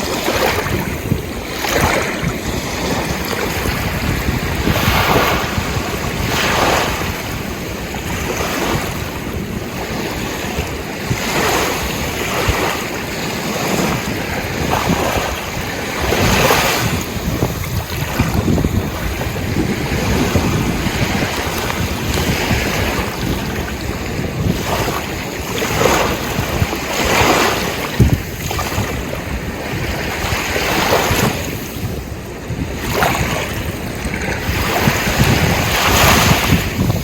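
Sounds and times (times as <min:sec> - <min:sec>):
steady rush of water: 0:00.0 - 0:37.0
waves breaking: 0:00.0 - 0:37.0
wind rumbling on microphone: 0:00.0 - 0:37.0.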